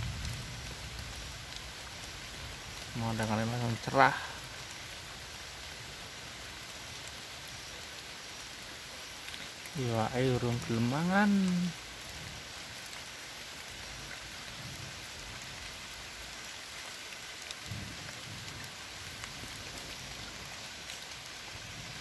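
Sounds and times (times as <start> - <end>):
rain on river surface: 0.0 - 22.0.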